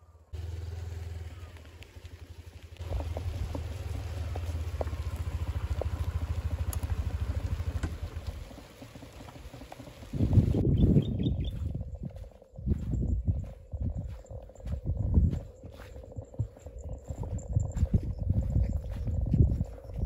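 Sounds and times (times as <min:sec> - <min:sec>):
scooter engine running: 0:00.3 - 0:20.0.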